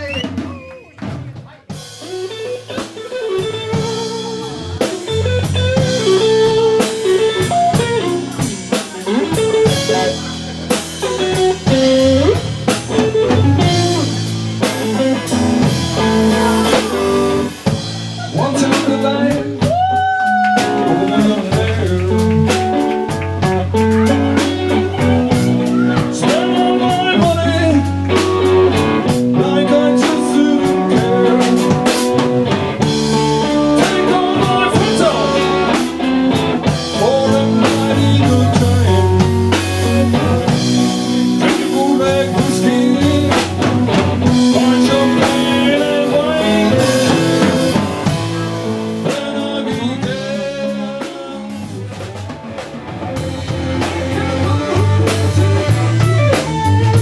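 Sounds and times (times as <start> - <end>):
live blues-rock band: 0.0 - 57.0.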